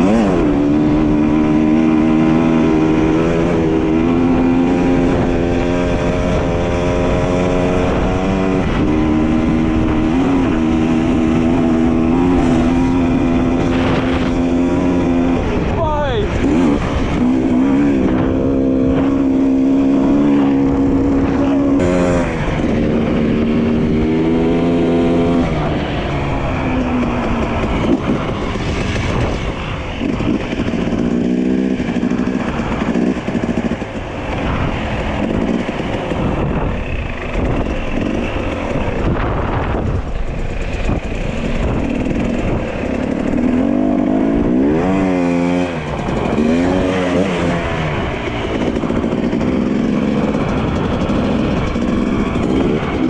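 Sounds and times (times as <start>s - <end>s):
dirt bike engine revving: 0.0s - 53.0s
wind and ground noise: 0.0s - 53.0s.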